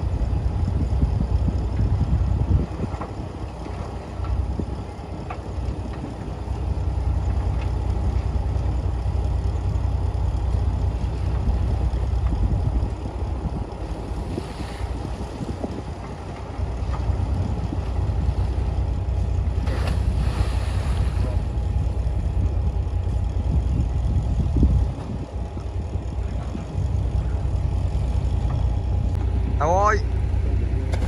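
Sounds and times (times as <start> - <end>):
diesel earthmoving machinery rumbling: 0.0 - 31.0.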